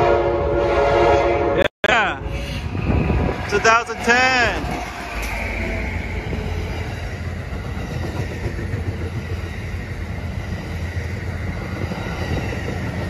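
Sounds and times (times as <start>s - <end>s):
train wheels rumbling on rails: 1.9s - 13.0s.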